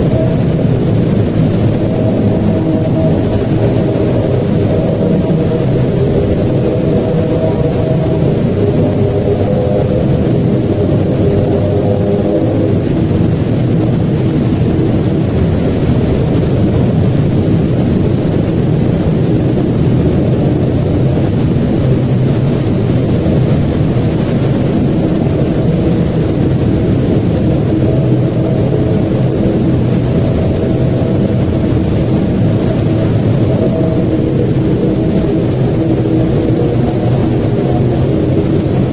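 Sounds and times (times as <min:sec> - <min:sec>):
loud low rumble: 0:00.0 - 0:38.9.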